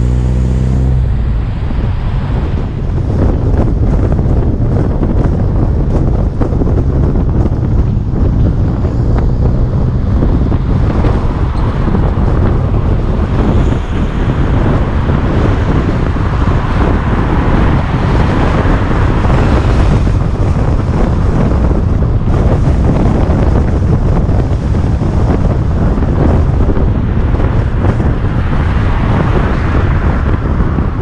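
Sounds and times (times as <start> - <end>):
road and engine rumble: 0.0 - 31.0
wind buffeting microphone: 0.0 - 31.0.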